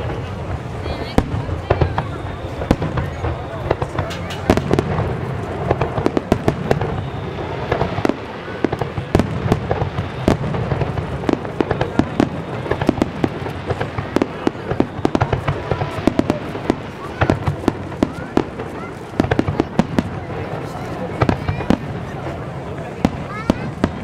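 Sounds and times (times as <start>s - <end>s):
low rumble of explosions: 0.0s - 24.0s.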